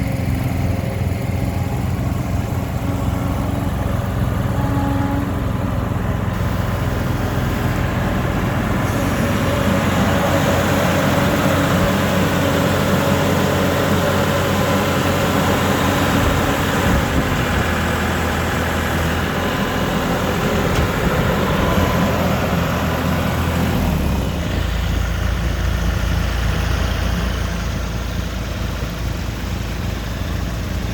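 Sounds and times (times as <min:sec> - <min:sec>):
skid steer engine running: 0:00.0 - 0:30.9.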